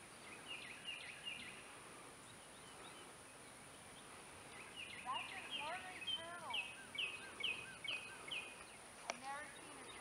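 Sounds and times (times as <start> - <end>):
birds chirping: 0.0 - 10.0
faint steady high hiss: 0.0 - 10.0.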